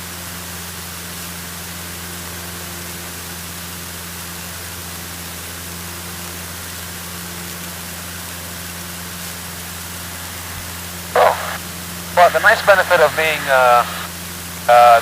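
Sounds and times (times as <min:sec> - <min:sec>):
light aircraft engine drone: 0:00.0 - 0:15.0.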